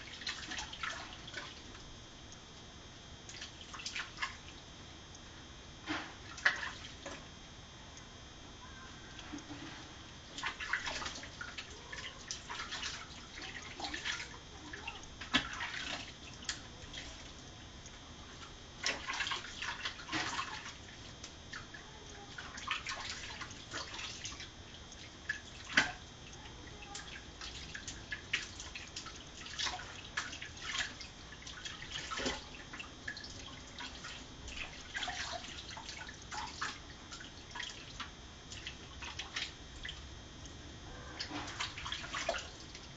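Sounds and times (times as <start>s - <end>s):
water splashing in a steel sink: 0.0s - 1.9s, 3.2s - 4.7s, 5.8s - 7.3s, 9.1s - 40.5s, 41.2s - 42.9s.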